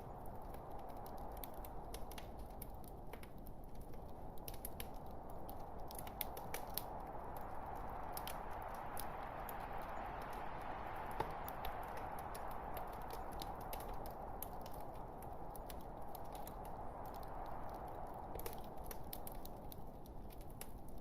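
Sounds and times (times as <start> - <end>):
logs crackling and popping: 0.0 - 21.0
rush of flames: 0.0 - 21.0.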